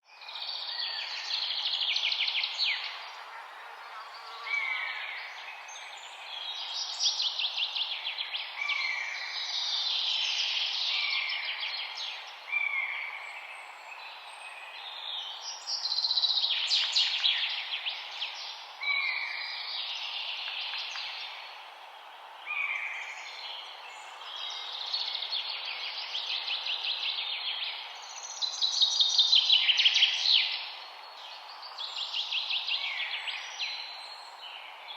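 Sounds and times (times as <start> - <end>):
songbirds trilling and chirping: 0.0 - 34.9
steady background hiss: 0.3 - 34.9.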